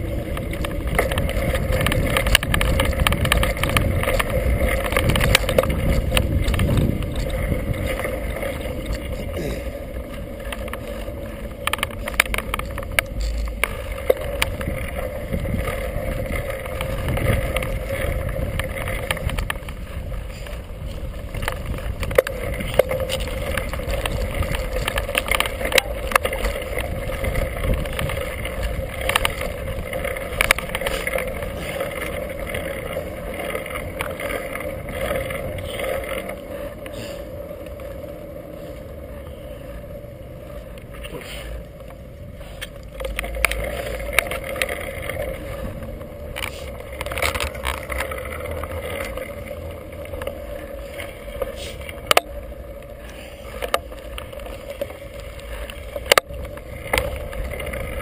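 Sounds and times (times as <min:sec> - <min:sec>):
bike rattling over bumps: 0:00.0 - 0:58.0
bike tyres crunching over dirt: 0:00.0 - 0:58.0.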